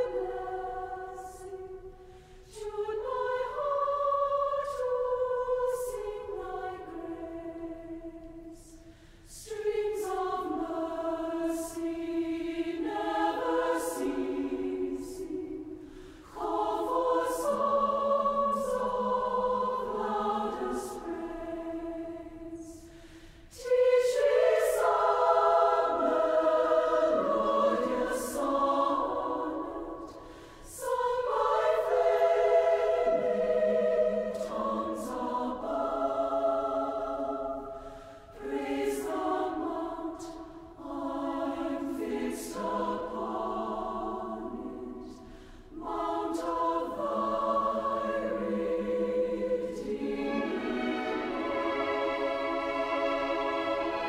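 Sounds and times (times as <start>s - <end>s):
choir singing held phrases: 0.0s - 54.0s.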